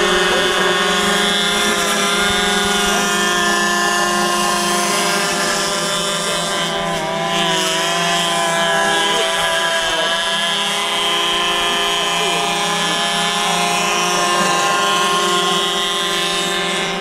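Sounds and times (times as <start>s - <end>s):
model airboat engine running: 0.0s - 17.0s.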